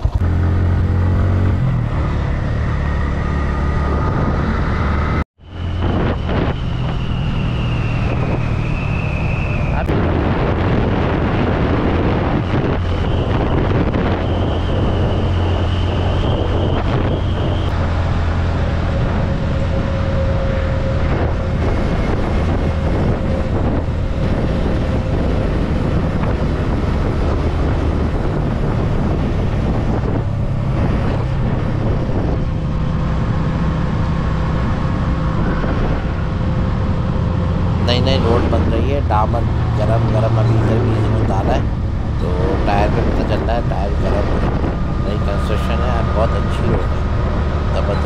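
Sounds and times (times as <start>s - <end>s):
wind noise on microphone: 0.0s - 48.0s.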